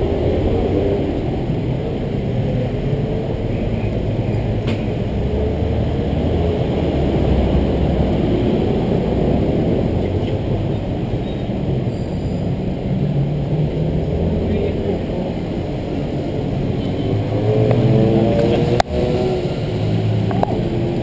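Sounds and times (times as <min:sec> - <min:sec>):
car and motorbike engines passing: 0:00.0 - 0:21.0.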